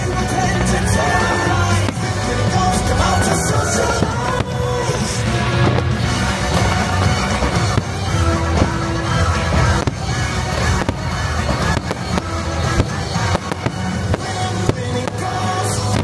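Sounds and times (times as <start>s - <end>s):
fireworks bursting: 0.0s - 16.0s
loud music from speakers: 0.0s - 16.0s.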